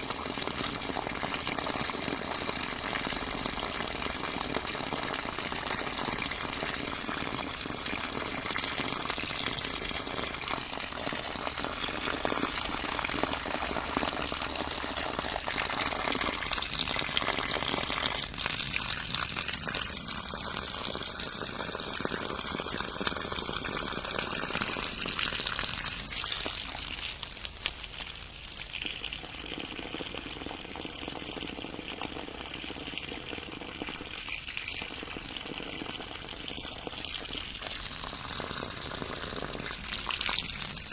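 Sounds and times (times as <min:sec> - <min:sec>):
water running and rippling: 0:00.0 - 0:40.9.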